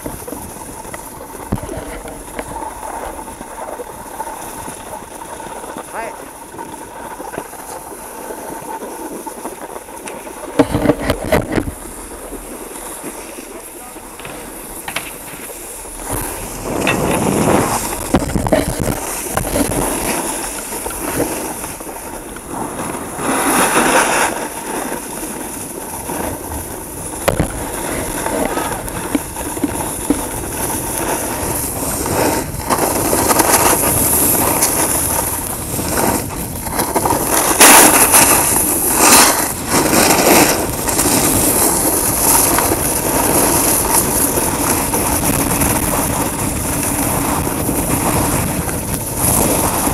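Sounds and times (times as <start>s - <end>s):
snowboard edges scraping snow: 0.0s - 49.9s.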